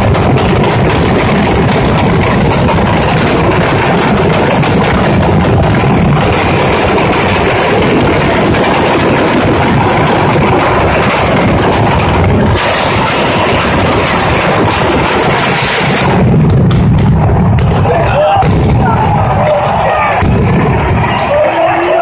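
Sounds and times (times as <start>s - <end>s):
firecracker barrage: 0.0s - 22.0s.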